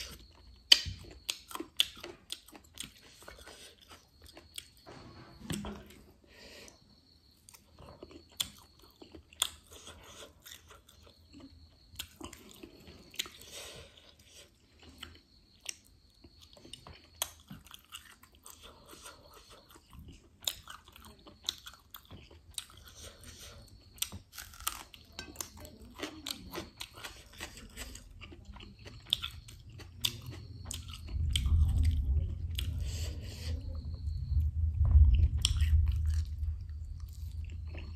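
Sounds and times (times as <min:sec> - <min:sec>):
close-up chewing: 0:00.0 - 0:04.8, 0:07.4 - 0:34.4.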